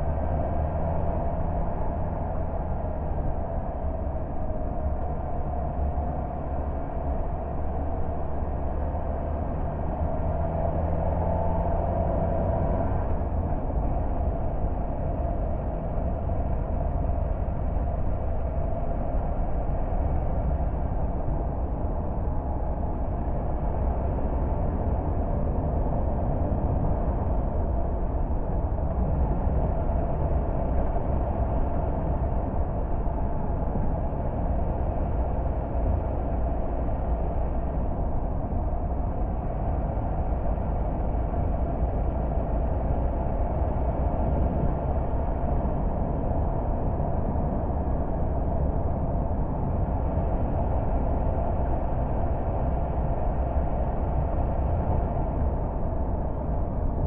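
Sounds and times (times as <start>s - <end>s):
car driving on road: 0.0s - 57.0s.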